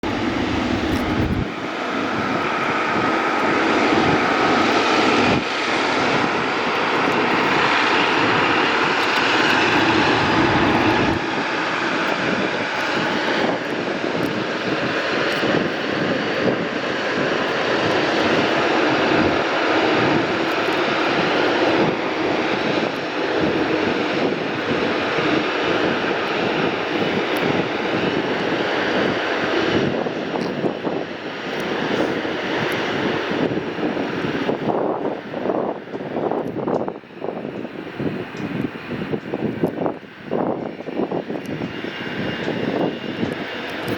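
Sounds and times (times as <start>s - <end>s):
jet engines roaring on takeoff: 0.0s - 43.9s.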